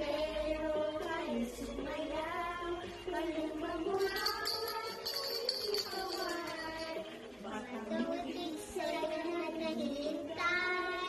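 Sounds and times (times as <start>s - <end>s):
girl singing sing-song: 0.0s - 11.0s.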